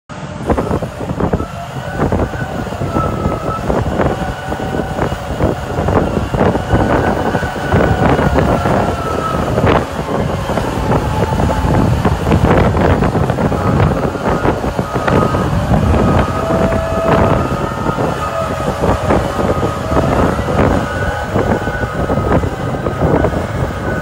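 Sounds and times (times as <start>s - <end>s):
high wavering whine: 0.1s - 24.0s
wheel loader diesel engine straining: 0.1s - 24.0s.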